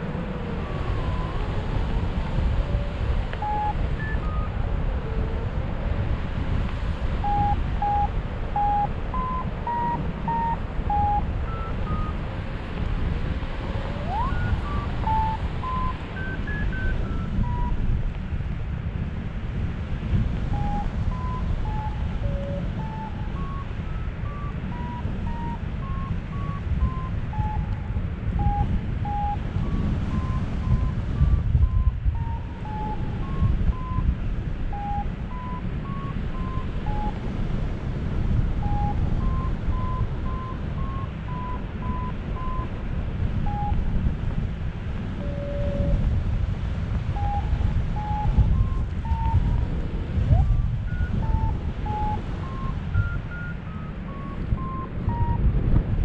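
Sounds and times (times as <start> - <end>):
variometer beeping: 0.0 - 5.2, 6.6 - 18.0, 20.4 - 37.6, 38.3 - 42.7, 43.4 - 44.0, 45.2 - 46.1, 47.0 - 55.8
wind rushing on microphone: 0.0 - 56.0.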